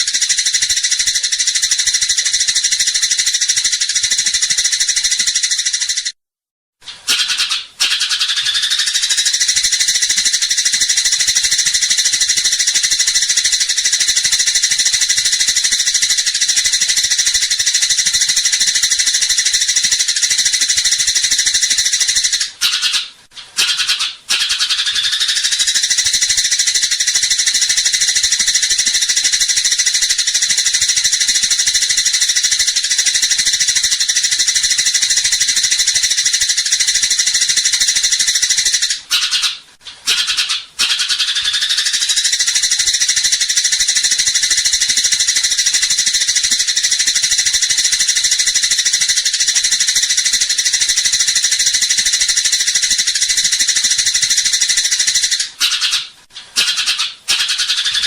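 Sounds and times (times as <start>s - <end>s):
sparrows chirping shrilly: 0.0s - 6.1s, 7.1s - 50.7s.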